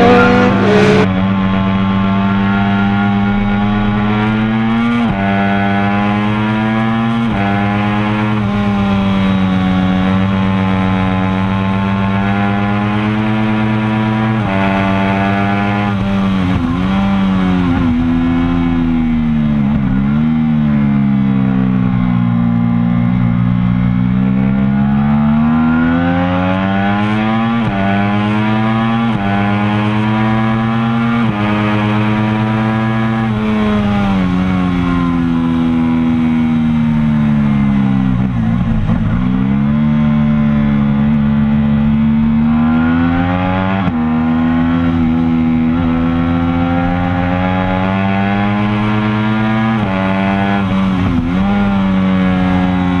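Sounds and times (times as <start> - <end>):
motorcycle engine at full throttle: 0.0 - 53.0.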